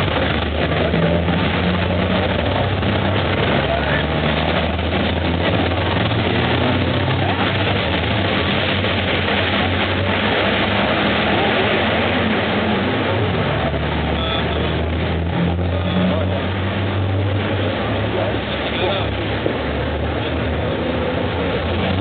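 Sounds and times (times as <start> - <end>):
diesel engine drone: 0.0 - 22.0
loud rushing noise: 0.0 - 22.0.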